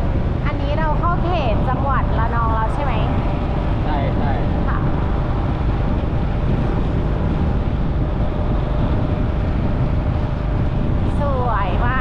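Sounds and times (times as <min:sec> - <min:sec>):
road and engine noise: 0:00.0 - 0:12.0
wind buffeting microphone: 0:00.0 - 0:12.0.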